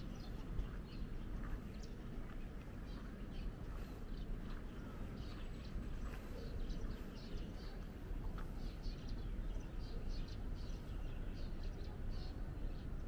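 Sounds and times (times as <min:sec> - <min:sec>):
low street rumble: 0:00.0 - 0:13.0
small birds chirping: 0:00.0 - 0:13.0.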